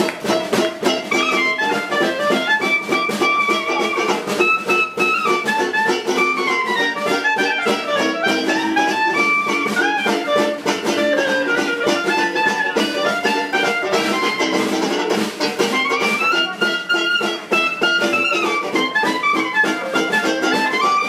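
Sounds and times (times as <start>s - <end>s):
banjo strumming: 0.0s - 21.0s
clarinet melody: 0.0s - 21.0s
trombone and tuba: 1.1s - 4.4s, 5.7s - 21.0s.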